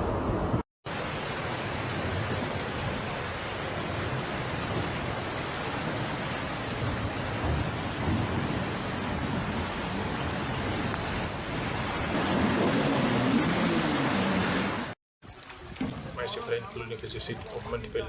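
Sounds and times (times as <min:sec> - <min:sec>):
heavy rain: 0:00.0 - 0:15.0
running floodwater: 0:00.8 - 0:18.0.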